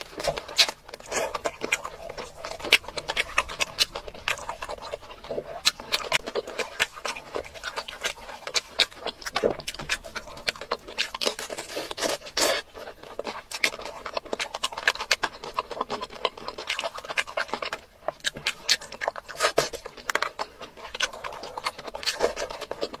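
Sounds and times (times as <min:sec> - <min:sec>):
wet chewing and lip smacking: 0:00.0 - 0:23.0.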